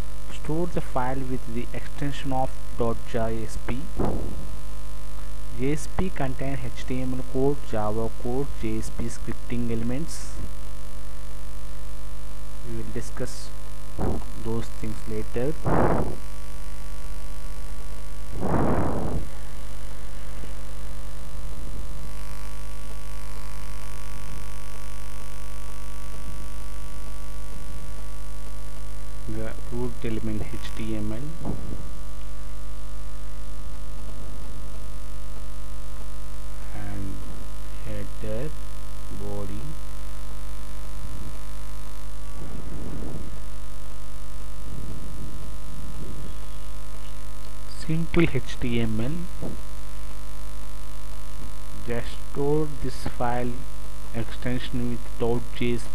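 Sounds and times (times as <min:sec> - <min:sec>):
electrical mains hum: 0:00.0 - 0:55.9
faint noise: 0:00.0 - 0:55.9.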